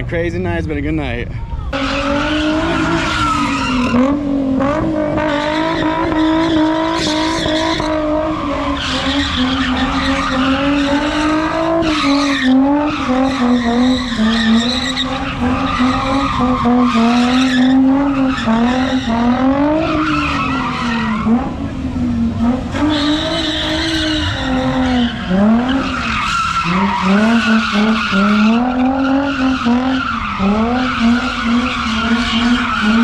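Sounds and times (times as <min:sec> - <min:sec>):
car engine at high revs: 0:01.7 - 0:33.0
tires squealing and skidding: 0:01.7 - 0:33.0.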